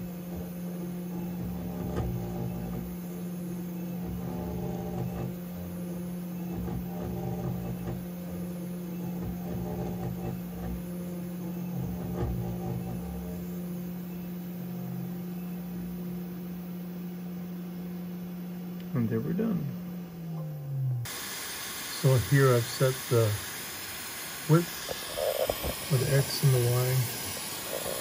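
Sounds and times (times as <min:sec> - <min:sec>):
low metal cutting noise: 0:00.0 - 0:28.0
router spindle humming: 0:00.0 - 0:28.0.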